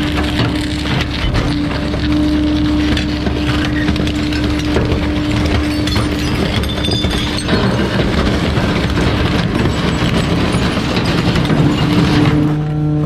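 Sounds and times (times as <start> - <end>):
wood cracking and splintering: 0.0 - 12.8
truck engine and hydraulics: 0.0 - 13.0.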